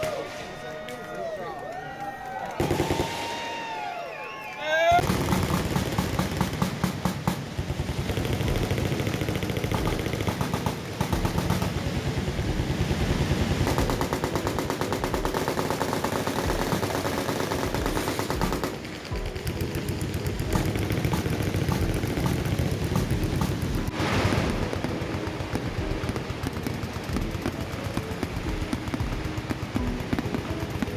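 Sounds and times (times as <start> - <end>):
machine guns firing: 2.6 - 3.8, 5.0 - 30.9.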